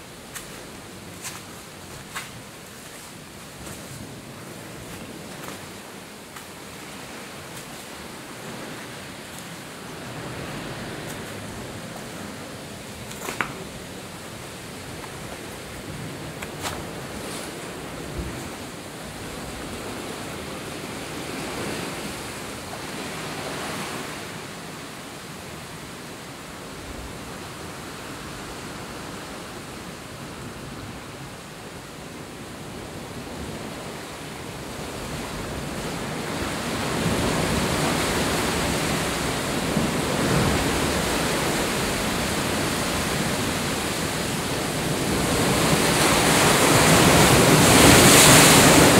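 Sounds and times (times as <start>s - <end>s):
sea surf breaking over rocks: 0.0s - 31.2s, 32.6s - 48.9s.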